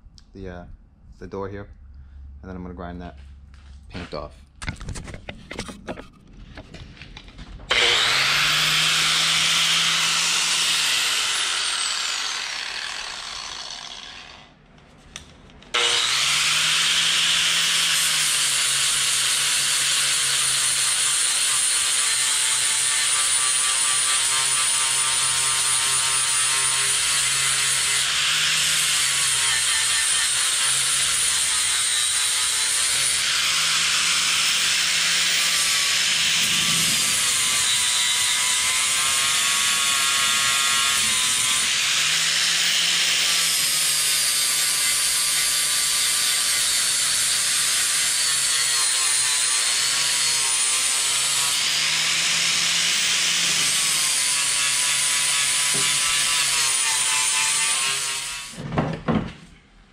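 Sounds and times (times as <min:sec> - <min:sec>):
angle grinder grinding metal: 0:07.7 - 0:14.6, 0:15.7 - 0:58.6.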